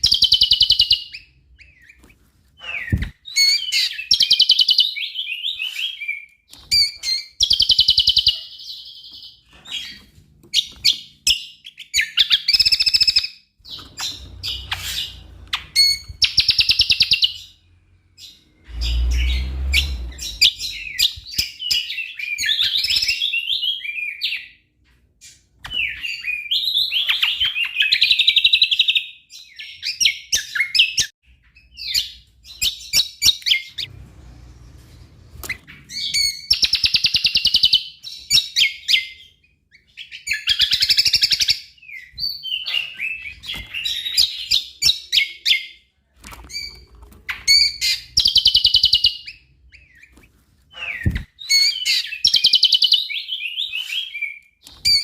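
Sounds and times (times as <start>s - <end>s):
songbird chirping and trilling: 0.0s - 45.9s, 46.5s - 55.0s.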